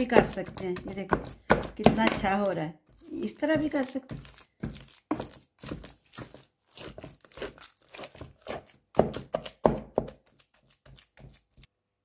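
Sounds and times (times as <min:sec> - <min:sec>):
ladle mashing food in a pot: 0:00.0 - 0:11.7.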